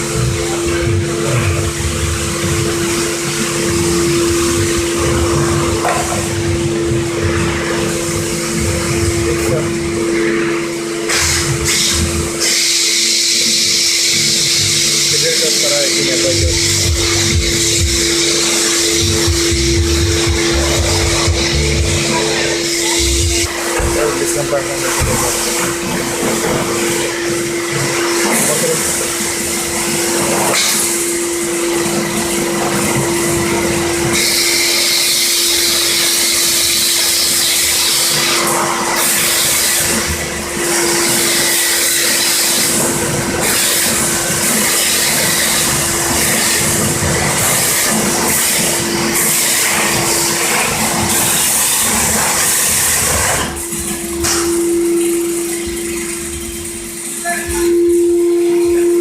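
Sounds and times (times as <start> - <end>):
pressure washer pump hum: 0.0 - 59.0
water jet hissing: 0.0 - 59.0.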